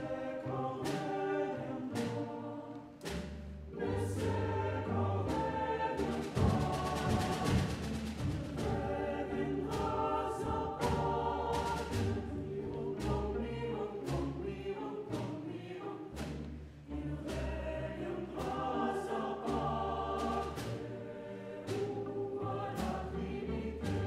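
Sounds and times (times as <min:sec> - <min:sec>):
choir singing in parts: 0:00.0 - 0:24.0
small instrumental ensemble: 0:00.0 - 0:24.0.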